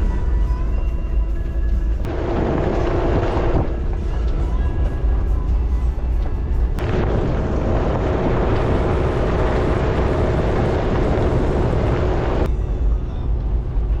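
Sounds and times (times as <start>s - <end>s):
deep rumble: 0.0s - 14.0s
road and wind noise: 0.0s - 14.0s
car engine running: 2.0s - 14.0s.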